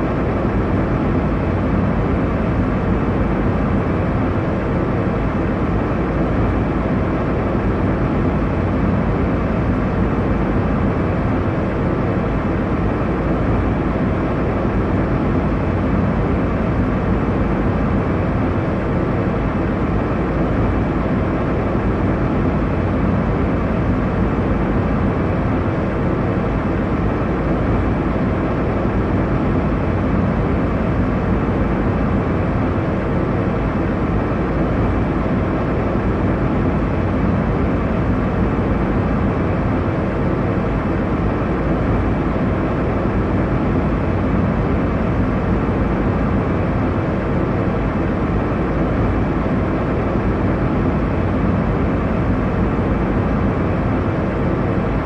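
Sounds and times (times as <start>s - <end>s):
airliner cabin engine and airflow noise: 0.0s - 55.0s.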